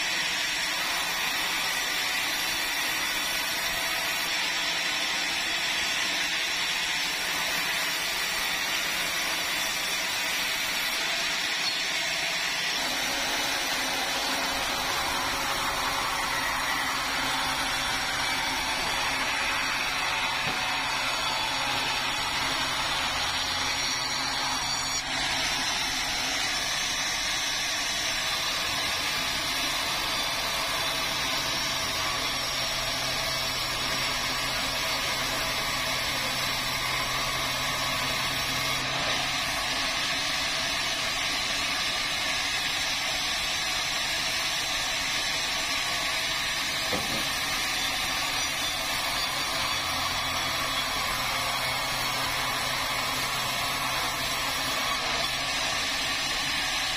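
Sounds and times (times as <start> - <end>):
power saw cutting log: 0.0 - 56.9.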